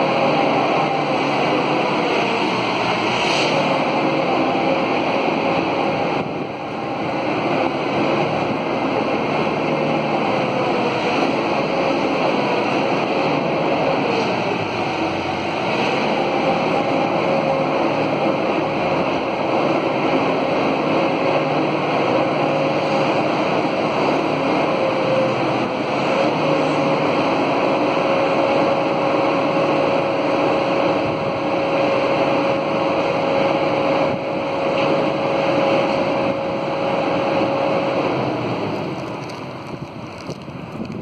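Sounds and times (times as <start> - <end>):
machinery noise: 0.0 - 41.0.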